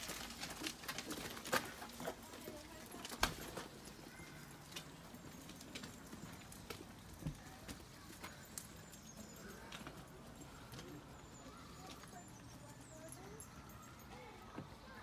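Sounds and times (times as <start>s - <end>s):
footsteps on brick path: 0.0s - 15.0s.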